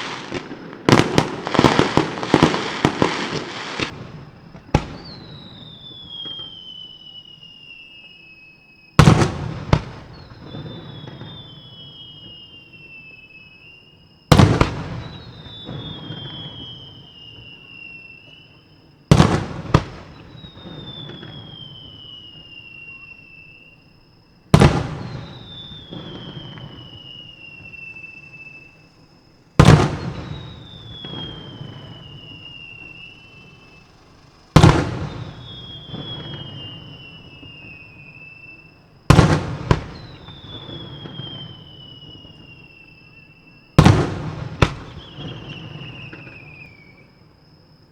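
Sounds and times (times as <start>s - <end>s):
firework shells bursting: 0.0s - 7.4s, 13.7s - 47.1s.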